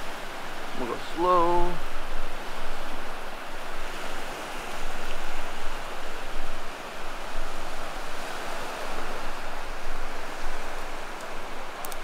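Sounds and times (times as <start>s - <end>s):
surf waves breaking on sand: 0.0s - 12.0s.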